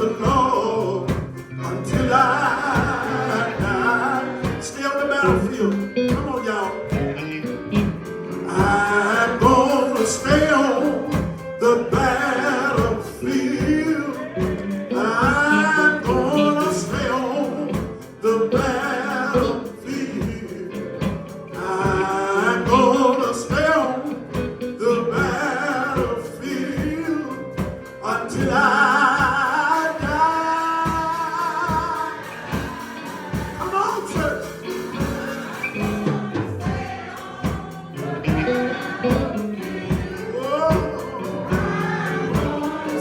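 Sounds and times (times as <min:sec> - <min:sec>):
gospel singing: 0:00.0 - 0:43.0
steady drum beat: 0:00.0 - 0:43.0.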